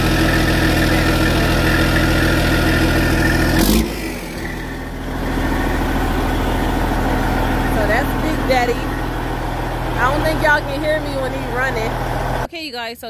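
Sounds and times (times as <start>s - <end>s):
diesel truck engine running loud: 0.0s - 12.5s.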